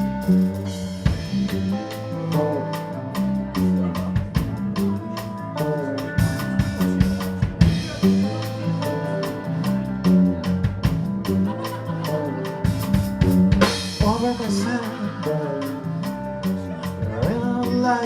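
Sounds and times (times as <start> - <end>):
drum kit beat: 0.0 - 18.0
guitar and bass: 0.0 - 18.0.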